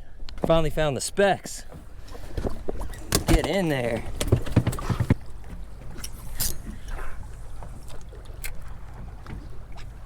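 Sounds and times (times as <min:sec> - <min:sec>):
water lapping against boat hull: 0:00.1 - 0:10.0.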